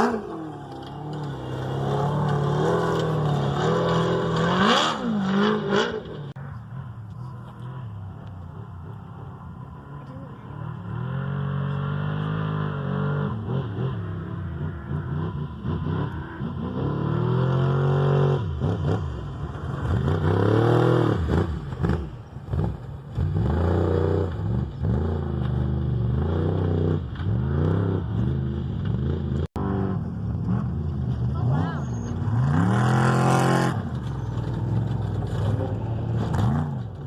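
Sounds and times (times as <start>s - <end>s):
race vehicle engines revving: 0.0s - 37.0s.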